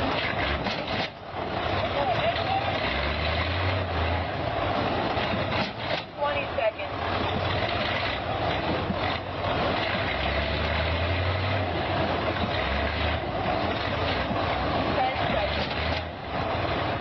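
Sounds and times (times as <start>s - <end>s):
traffic and road noise: 0.0s - 17.0s
vehicle engine hum: 0.0s - 17.0s.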